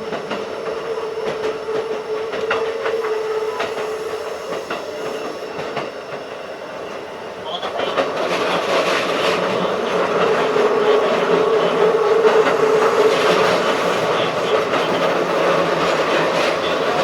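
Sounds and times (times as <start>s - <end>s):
rail-joint clicks: 0.0s - 17.0s
train wheels rumbling on rail: 0.0s - 17.0s.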